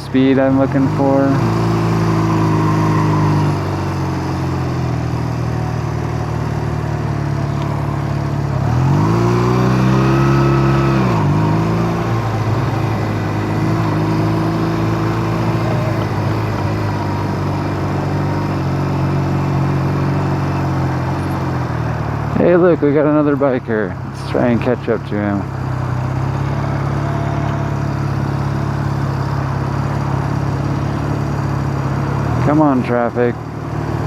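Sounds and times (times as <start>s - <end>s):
motorcycle engine revving: 0.0s - 34.0s
wind and road noise: 0.0s - 34.0s.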